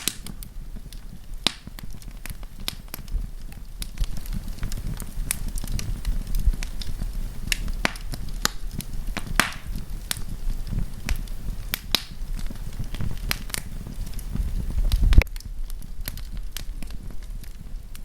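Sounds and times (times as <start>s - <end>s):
campfire crackling: 0.0s - 18.0s
fire pops and snaps: 0.0s - 18.0s
low rush of flame: 0.0s - 18.0s.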